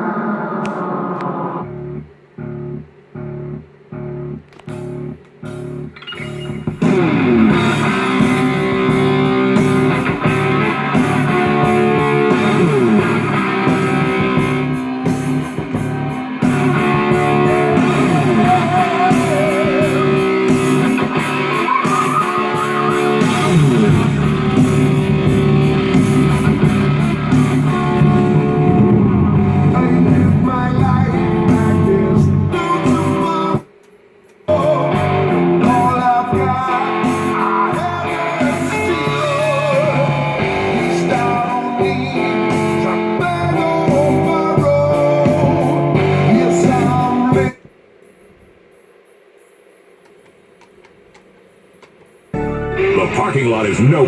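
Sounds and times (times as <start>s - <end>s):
rock song over radio speakers: 0.0s - 48.5s, 50.1s - 54.0s.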